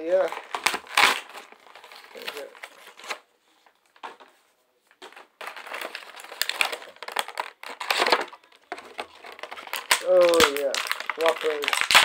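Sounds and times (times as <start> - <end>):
packaging crinkling and crackling: 0.0 - 3.2, 4.9 - 12.0.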